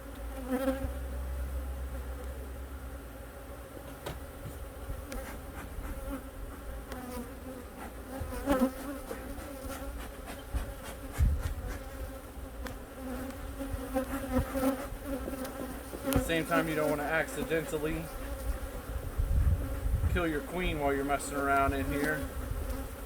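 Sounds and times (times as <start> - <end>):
bees buzzing in a hive: 0.0 - 23.0.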